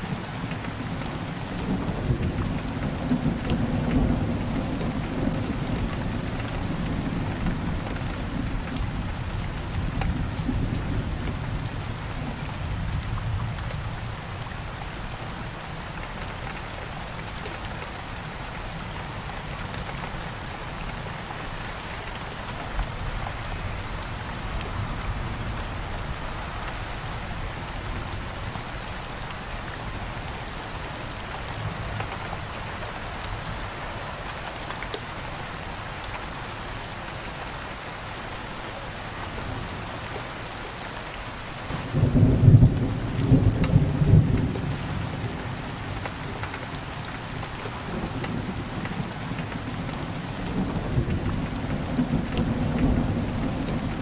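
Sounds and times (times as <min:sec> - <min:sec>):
heavy rain on a window: 0:00.0 - 0:54.0.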